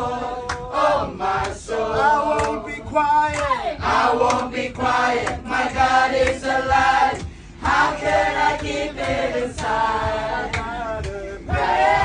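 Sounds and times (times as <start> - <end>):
group singing: 0.0 - 12.0
low thumping beat: 0.0 - 12.0.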